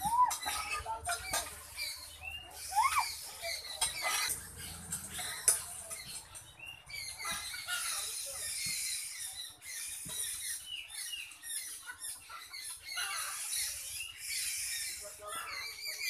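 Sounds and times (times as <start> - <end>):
flock of small birds chirping: 0.0 - 16.0.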